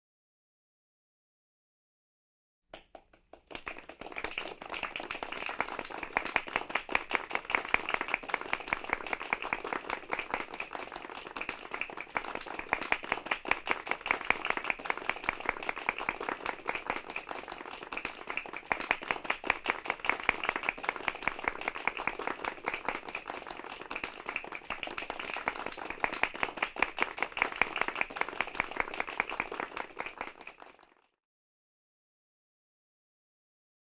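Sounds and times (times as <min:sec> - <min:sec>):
group applauding: 0:02.8 - 0:31.2.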